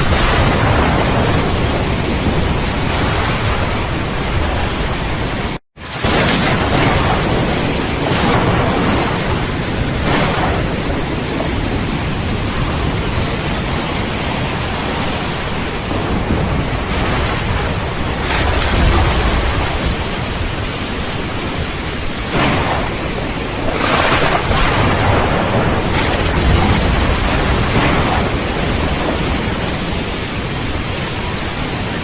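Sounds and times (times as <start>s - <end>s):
heavy rain: 0.0s - 32.0s
low rumbling thunder: 0.0s - 32.0s.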